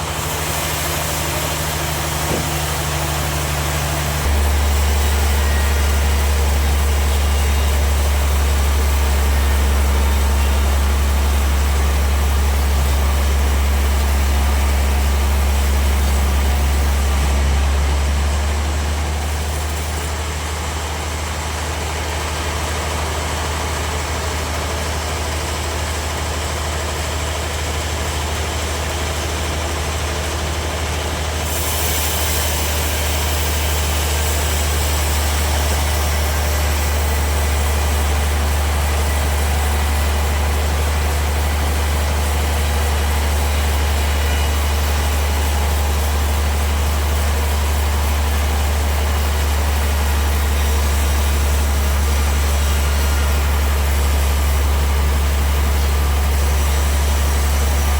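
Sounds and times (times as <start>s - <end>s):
sawmill machinery humming: 0.0s - 57.9s.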